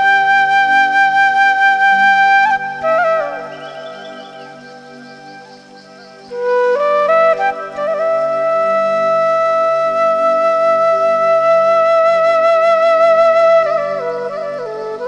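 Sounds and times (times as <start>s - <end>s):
wind instrument melody: 0.0s - 15.0s.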